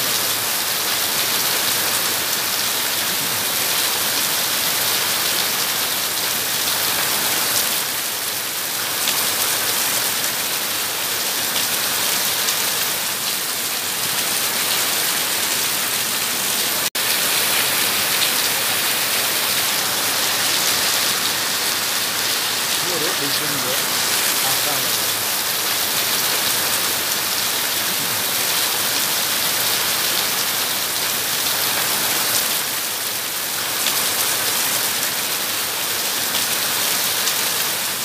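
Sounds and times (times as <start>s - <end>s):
heavy rain on pavement: 0.0s - 38.0s.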